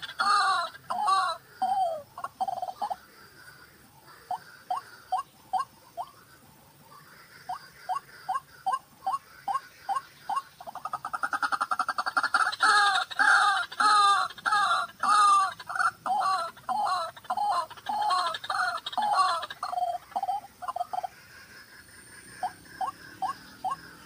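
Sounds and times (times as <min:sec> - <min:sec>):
bird calling: 0:00.0 - 0:24.0.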